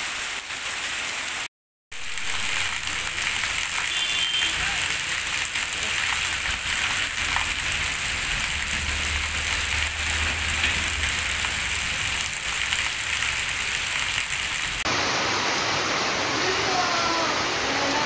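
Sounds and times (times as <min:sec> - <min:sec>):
heavy rain on a street: 0:00.0 - 0:18.0.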